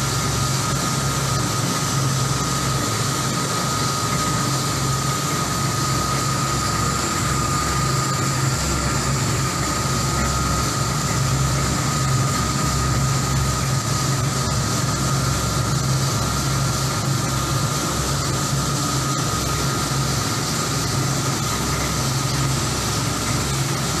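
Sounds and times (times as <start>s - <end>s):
coffee roaster motors droning: 0.0s - 24.0s
constant high whine: 0.0s - 24.0s.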